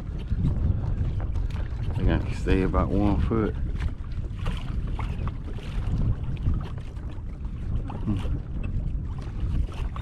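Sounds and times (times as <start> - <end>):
water lapping against boat hull: 0.0 - 10.0
wind buffeting microphone: 0.0 - 10.0.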